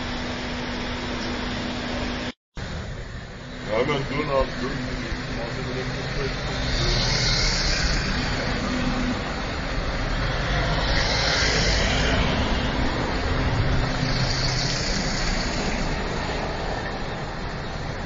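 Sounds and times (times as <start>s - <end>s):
vans driving past: 0.0s - 18.0s.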